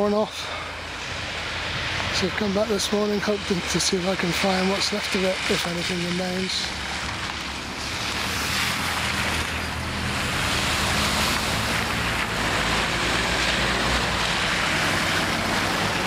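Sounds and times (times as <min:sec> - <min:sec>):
engines running low: 0:00.0 - 0:16.0
tyres hissing on wet road: 0:00.0 - 0:16.0.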